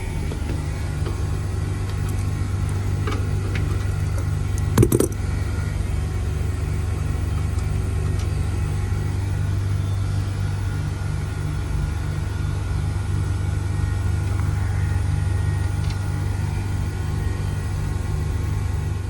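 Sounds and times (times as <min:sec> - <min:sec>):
heat pump humming: 0:00.0 - 0:19.0.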